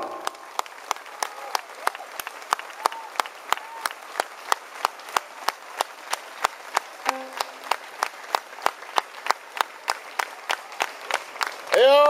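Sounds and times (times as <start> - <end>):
audience applauding: 0.0 - 12.0
rhythmic hand claps: 0.0 - 12.0.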